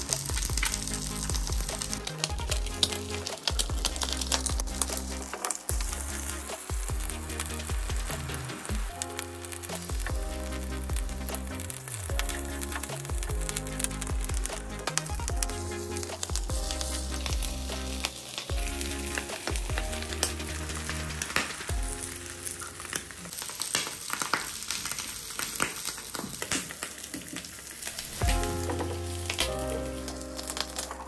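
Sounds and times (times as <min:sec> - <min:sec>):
eggs sizzling in a pan: 0:00.0 - 0:31.0.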